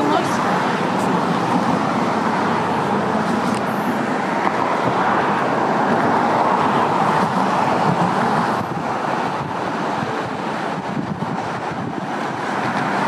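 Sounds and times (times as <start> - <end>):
hum of passing cars: 0.0 - 13.0.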